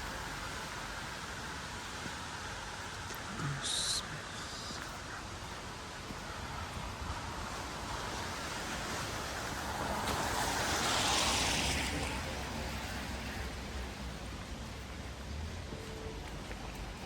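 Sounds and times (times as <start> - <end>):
city background rumble: 0.0 - 17.0
tyre hiss on wet street: 0.0 - 17.0.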